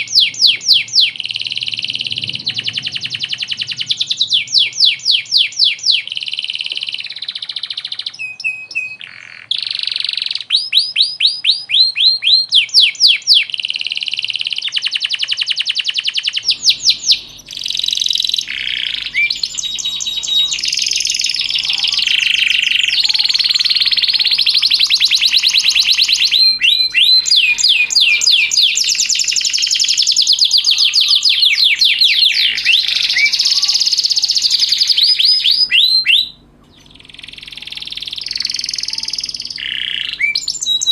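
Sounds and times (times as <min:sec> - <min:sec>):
canary singing trills: 0:00.0 - 0:40.9
faint low hum: 0:00.0 - 0:40.9.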